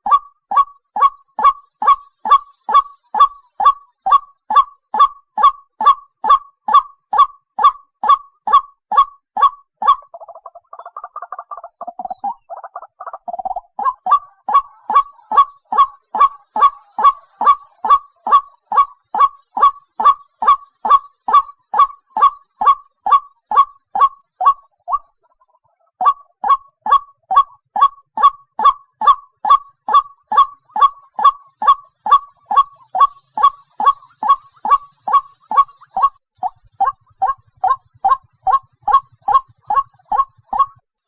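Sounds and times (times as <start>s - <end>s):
waterhen calling: 0.0s - 40.8s.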